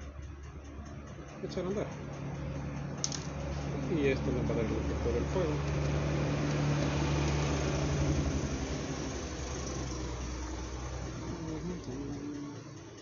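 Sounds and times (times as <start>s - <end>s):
small electric motor humming: 1.8s - 13.0s.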